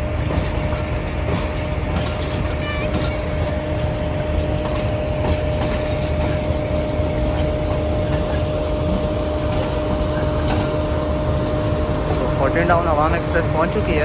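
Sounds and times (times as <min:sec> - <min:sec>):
diesel locomotive rumbling: 0:00.0 - 0:14.0
locomotive whine: 0:00.0 - 0:14.0.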